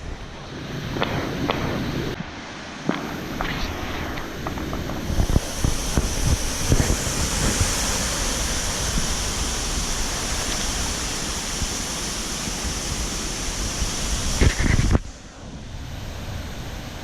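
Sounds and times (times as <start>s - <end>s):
stream water rushing over rocks: 0.0s - 15.6s.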